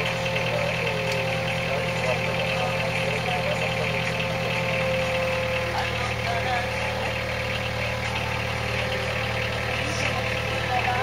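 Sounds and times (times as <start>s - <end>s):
engine running at low revs: 0.0s - 11.0s
faint voices: 0.0s - 11.0s.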